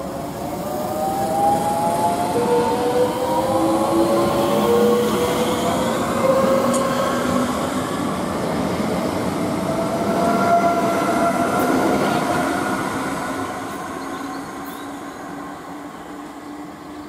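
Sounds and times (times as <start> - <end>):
electric train motors whining: 0.0 - 16.8
wheels rumbling on rails: 0.0 - 17.0.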